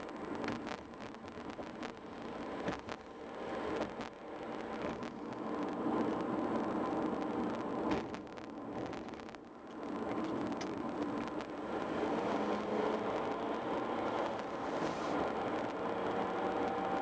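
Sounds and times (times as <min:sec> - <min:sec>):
car road noise: 0:00.0 - 0:17.0.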